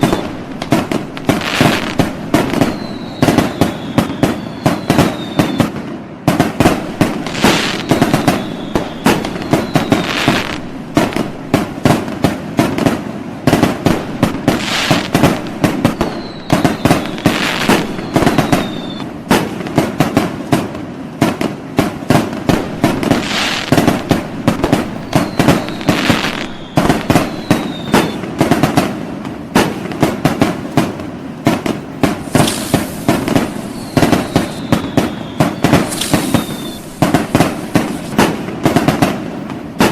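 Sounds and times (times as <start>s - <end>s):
firework whistles: 0.0s - 39.9s
fireworks bangs and pops: 0.0s - 39.9s.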